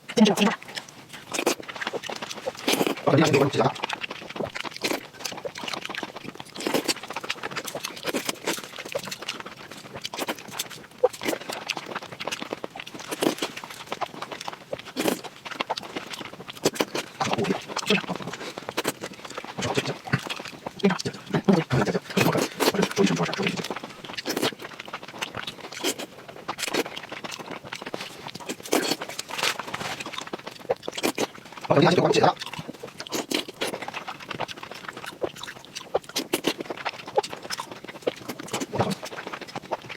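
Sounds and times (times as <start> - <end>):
wet chewing and lip smacks: 0.0 - 39.9.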